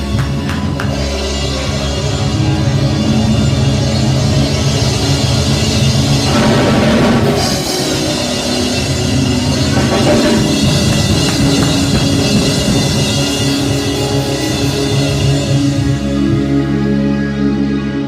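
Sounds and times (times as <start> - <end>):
driving drum beat: 0.0 - 16.4
sustained synth chords: 1.1 - 18.0.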